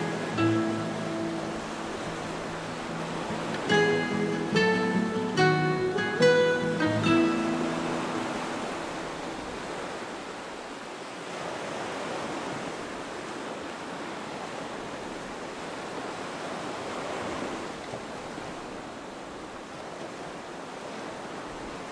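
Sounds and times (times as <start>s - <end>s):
ocean waves rushing: 0.0s - 21.9s.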